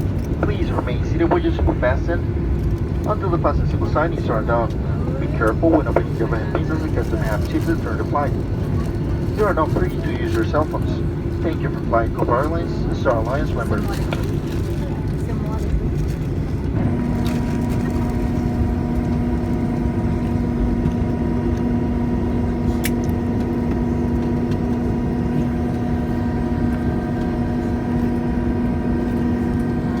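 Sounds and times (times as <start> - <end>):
airplane cabin low rumble: 0.0 - 30.0
steady hum: 0.0 - 30.0.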